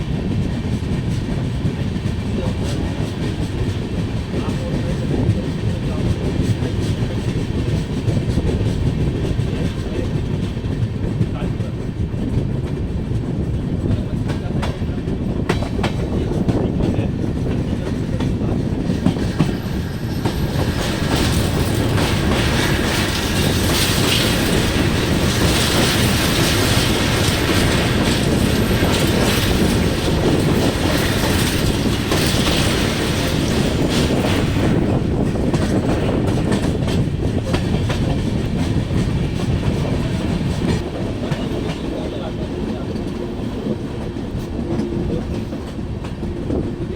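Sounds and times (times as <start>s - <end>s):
train rumble: 0.0s - 46.9s
train wheels clattering on rails: 0.0s - 46.9s.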